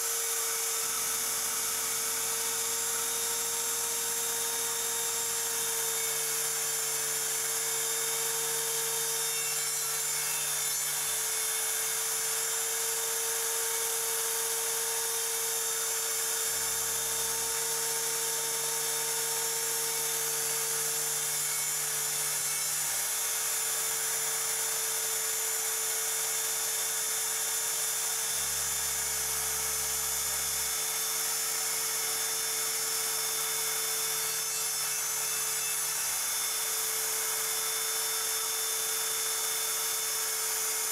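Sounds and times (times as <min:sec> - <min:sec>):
router spindle high whine: 0:00.0 - 0:40.9.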